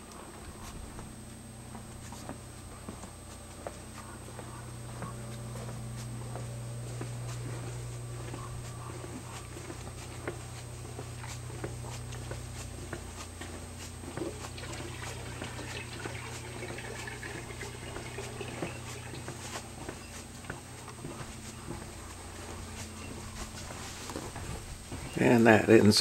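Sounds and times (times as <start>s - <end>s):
footsteps on wooden deck: 0.0s - 25.8s
steady low hum: 0.0s - 26.0s.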